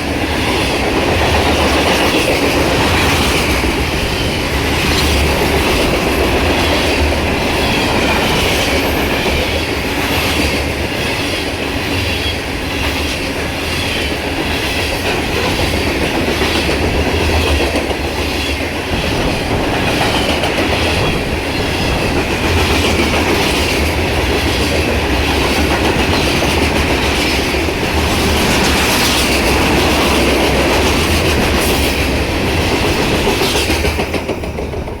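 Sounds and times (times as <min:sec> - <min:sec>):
clickety-clack over rail joints: 0:00.0 - 0:35.0
train wheels rumbling on rails: 0:00.0 - 0:35.0.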